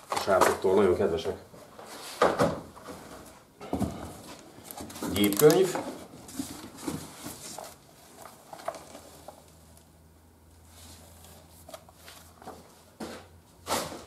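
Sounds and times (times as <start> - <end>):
low steady hum: 0.0 - 14.0
paper and cardboard rustling: 1.7 - 9.8, 10.6 - 14.0.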